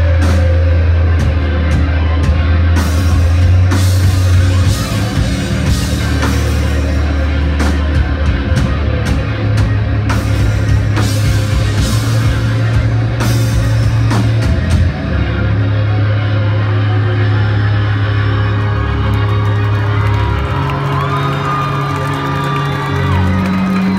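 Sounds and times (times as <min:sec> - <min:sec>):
drums: 0:00.0 - 0:23.9
guitar: 0:00.0 - 0:23.9
low bass notes: 0:00.0 - 0:23.9.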